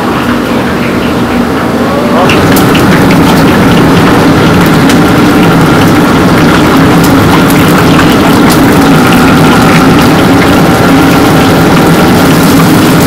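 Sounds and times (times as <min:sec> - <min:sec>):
gas burner roaring: 0:00.0 - 0:13.0
food sizzling in hot oil: 0:02.2 - 0:13.0.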